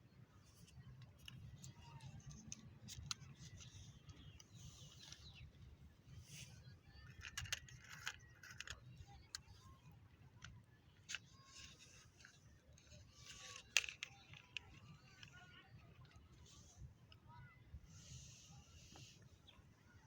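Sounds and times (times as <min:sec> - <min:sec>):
small rustles: 0:00.4 - 0:20.0.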